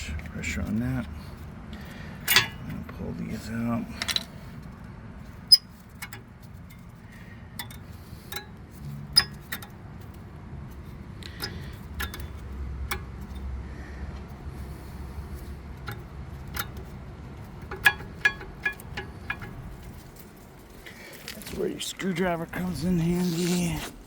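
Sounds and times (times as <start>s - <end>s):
metal brake parts clinking: 0.6s - 13.6s, 14.2s - 21.6s.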